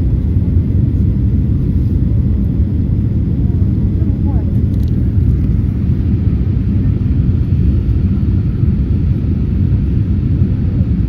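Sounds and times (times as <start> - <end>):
jet airliner taking off: 0.0 - 11.0.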